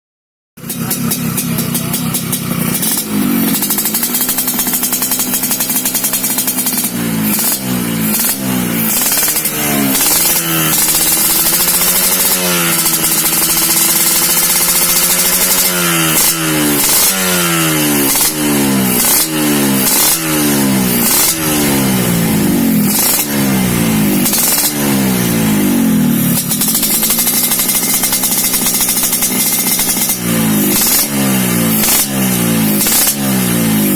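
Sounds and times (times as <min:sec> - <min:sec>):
motorcycle engine revving: 0:00.6 - 0:33.9.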